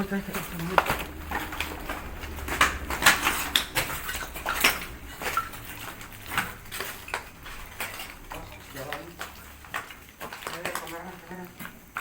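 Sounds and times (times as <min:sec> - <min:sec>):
sharp clicks and clattering knocks: 0:00.0 - 0:12.0.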